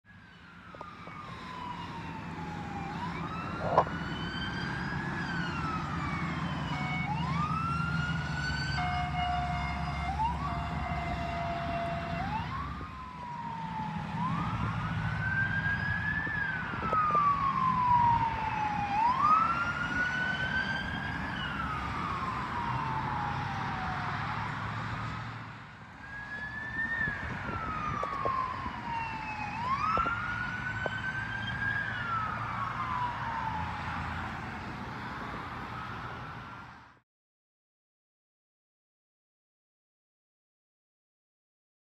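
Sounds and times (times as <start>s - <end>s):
highway traffic rumble: 0.0s - 37.0s
police sirens wailing: 0.1s - 25.2s, 25.9s - 37.0s.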